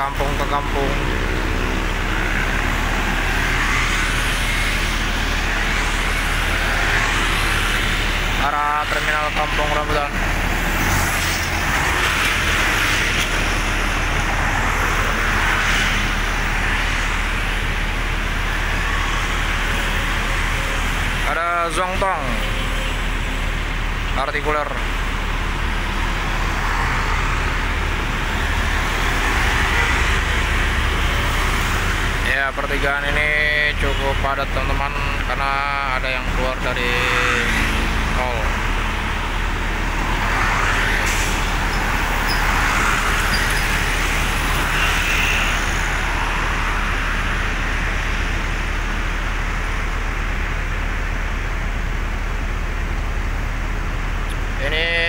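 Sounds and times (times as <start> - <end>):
engine rumble: 0.0 - 55.0
passing road traffic: 0.0 - 55.0.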